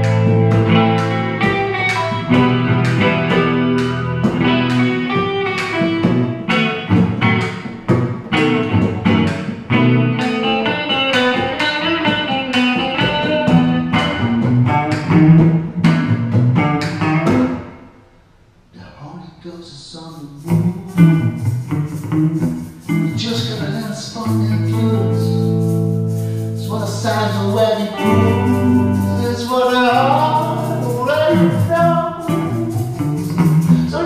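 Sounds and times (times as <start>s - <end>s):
electric guitar playing: 0.0s - 18.0s, 20.4s - 34.0s
acoustic guitar playing: 0.0s - 18.2s, 20.2s - 34.0s.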